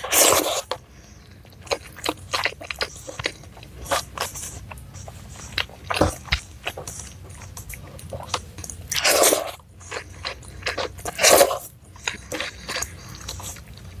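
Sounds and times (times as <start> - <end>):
mouth chewing crunchy food: 0.0 - 14.0.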